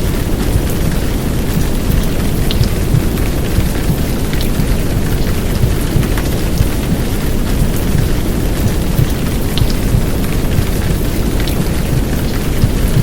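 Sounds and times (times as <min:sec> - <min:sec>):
heavy rain: 0:00.0 - 0:13.0
raindrop ticks: 0:00.0 - 0:13.0
womb sounds deep muffled rumble: 0:01.6 - 0:11.2, 0:11.8 - 0:13.0.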